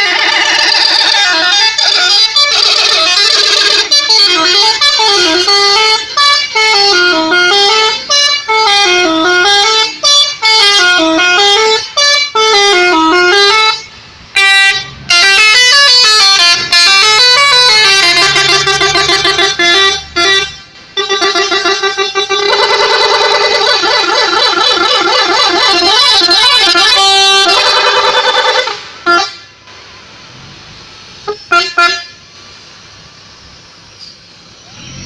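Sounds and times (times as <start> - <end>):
bus musical horn tune: 0.0 - 29.6, 31.2 - 32.4.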